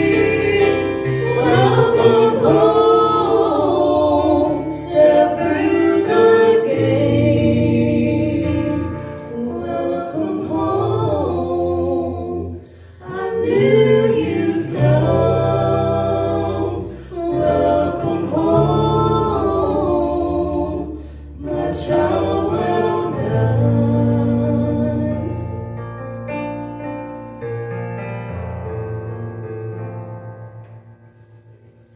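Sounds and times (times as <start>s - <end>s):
a cappella group singing in harmony: 0.0s - 25.9s.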